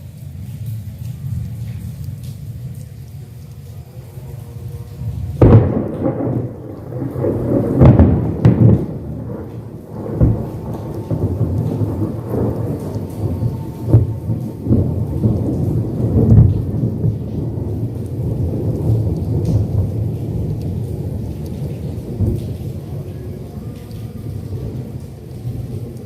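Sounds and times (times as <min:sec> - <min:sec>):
rolling thunder rumble: 0:03.9 - 0:26.0.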